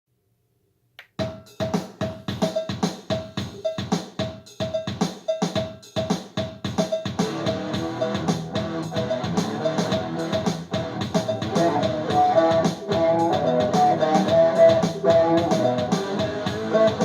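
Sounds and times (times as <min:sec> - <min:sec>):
steady drum beat: 0:01.0 - 0:17.0
bass and pitched instruments: 0:01.1 - 0:17.0.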